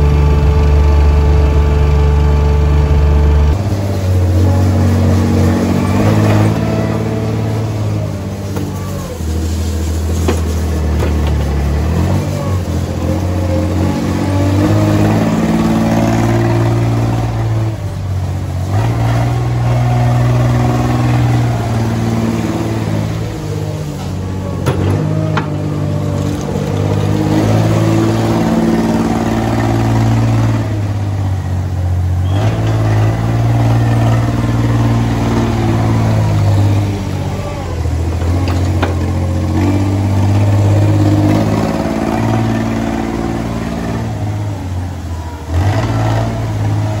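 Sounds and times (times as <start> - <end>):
loader engine revving: 0.0 - 47.0.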